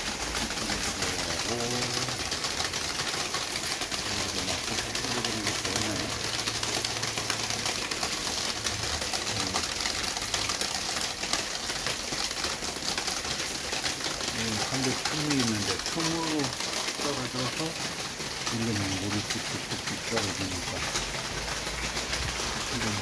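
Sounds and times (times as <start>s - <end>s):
heavy rain: 0.0s - 23.0s
water dripping and trickling: 0.0s - 23.0s.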